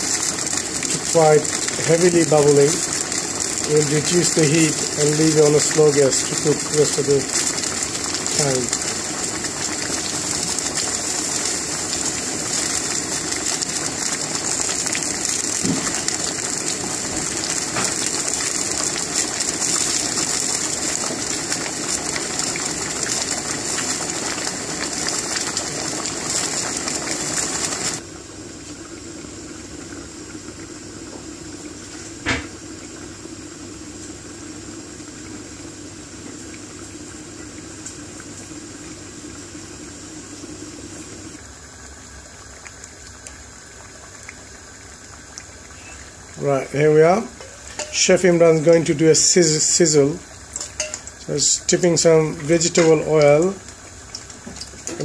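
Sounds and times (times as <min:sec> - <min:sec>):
pot boiling and bubbling: 0:00.0 - 0:55.0.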